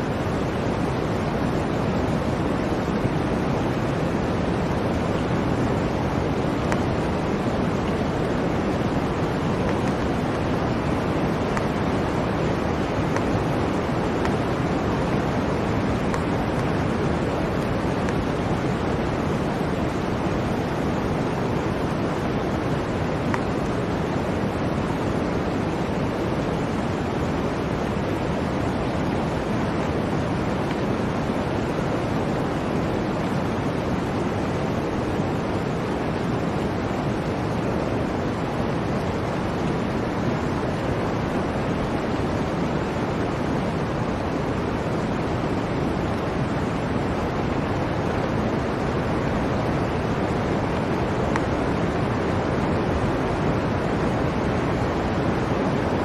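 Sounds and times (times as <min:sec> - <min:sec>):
blizzard wind rushing: 0:00.0 - 0:56.0.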